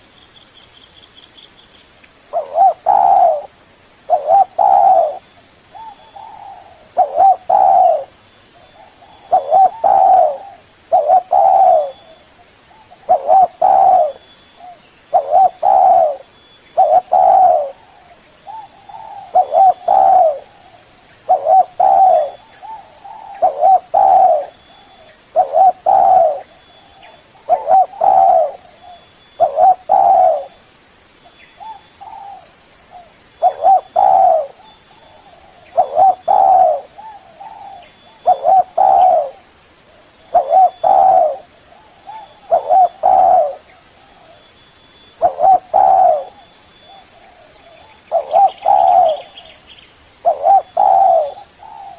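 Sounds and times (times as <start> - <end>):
dove cooing: 2.3 - 3.5, 4.1 - 30.6, 31.6 - 44.5, 45.1 - 49.6, 50.2 - 51.9.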